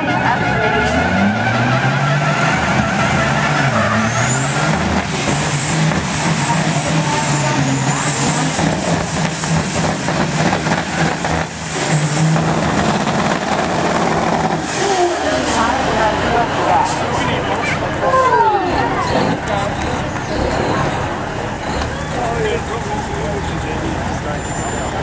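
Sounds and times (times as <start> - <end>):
truck diesel engines revving: 0.0 - 25.0.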